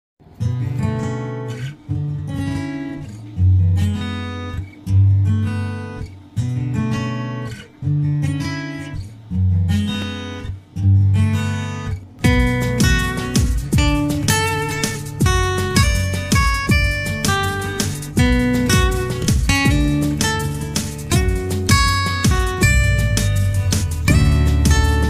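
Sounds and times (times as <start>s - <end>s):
acoustic guitar strumming chords: 0.2s - 25.0s.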